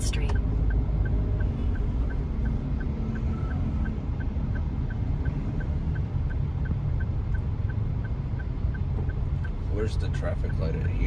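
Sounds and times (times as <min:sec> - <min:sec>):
engine and road rumble: 0:00.0 - 0:11.0
turn signal ticking: 0:00.0 - 0:11.0.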